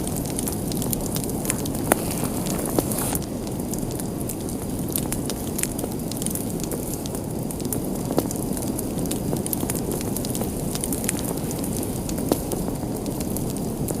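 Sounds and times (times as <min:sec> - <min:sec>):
fire crackling and popping: 0:00.0 - 0:14.0
fire flames rushing: 0:00.0 - 0:14.0.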